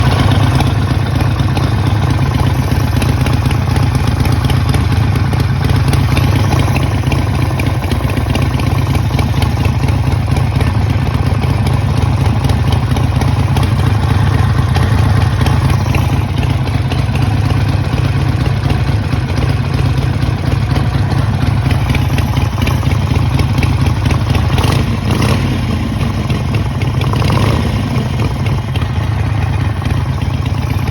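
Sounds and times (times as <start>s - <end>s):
motorcycle engine idling with clatter: 0.0s - 30.9s.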